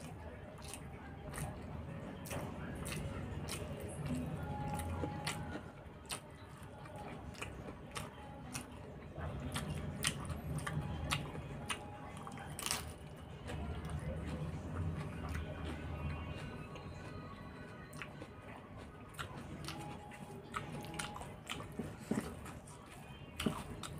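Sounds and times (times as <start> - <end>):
chewing with crisp crunches: 0.0 - 23.9.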